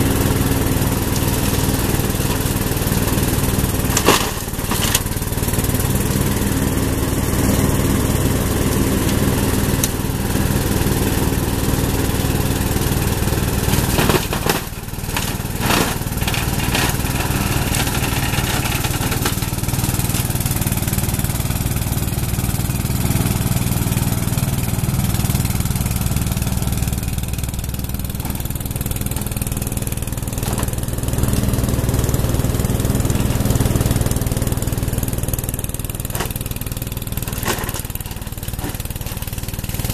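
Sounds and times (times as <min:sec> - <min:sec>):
mower blades shredding brush: 0:00.0 - 0:39.9
mower engine running: 0:00.0 - 0:39.9.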